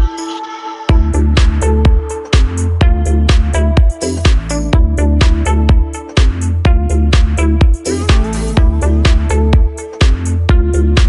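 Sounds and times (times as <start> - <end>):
electronic dance music: 0.0 - 11.0
heavy kick drum and bass: 0.9 - 11.0.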